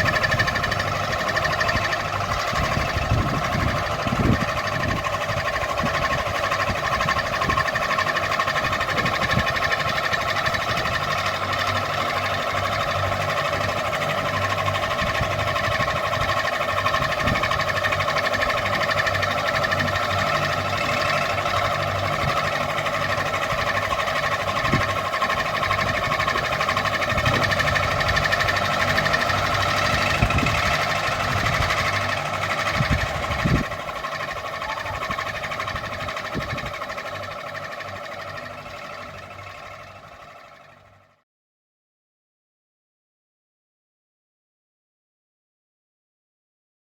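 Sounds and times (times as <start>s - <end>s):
ceiling fan whirring: 0.0s - 41.0s.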